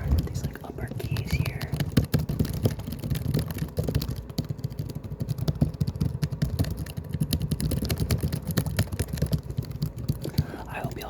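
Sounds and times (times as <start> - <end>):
laptop keys clicking: 0.0 - 11.0.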